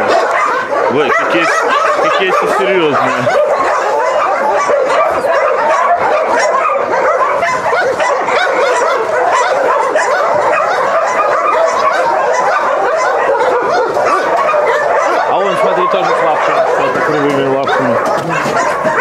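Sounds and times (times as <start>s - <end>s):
many dogs barking and yelping: 0.0s - 19.0s.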